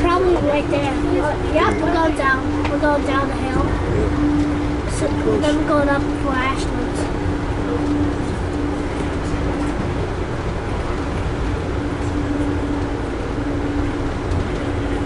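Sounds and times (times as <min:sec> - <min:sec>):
low hum: 0:00.0 - 0:15.0
train rumble and rail noise: 0:00.0 - 0:15.0.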